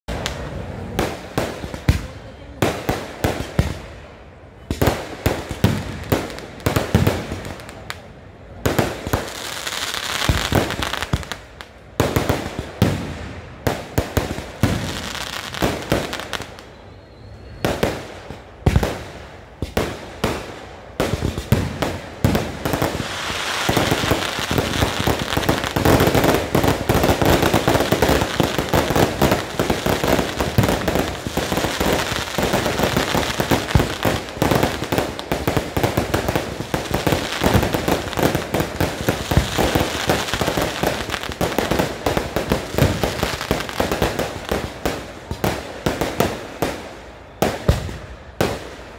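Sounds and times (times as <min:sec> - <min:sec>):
fireworks exploding: 0:00.1 - 0:48.9.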